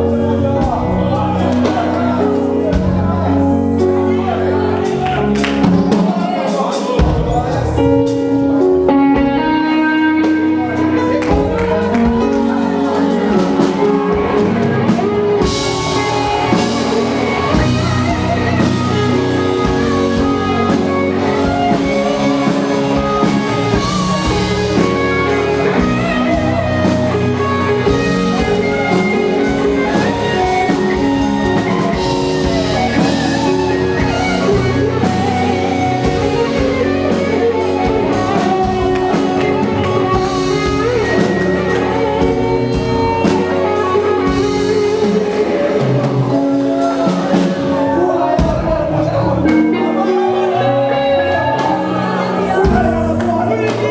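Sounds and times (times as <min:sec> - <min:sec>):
instrumental band music: 0:00.0 - 0:53.9.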